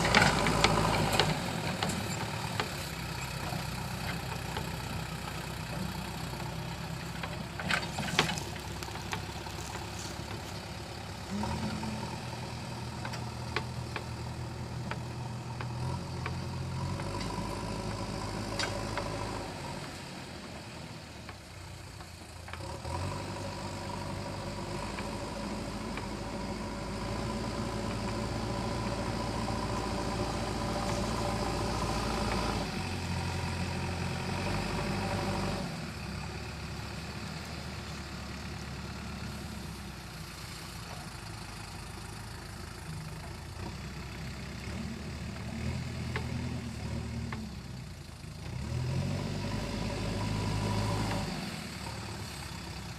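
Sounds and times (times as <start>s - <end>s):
diesel engine running under load: 0.0s - 52.9s.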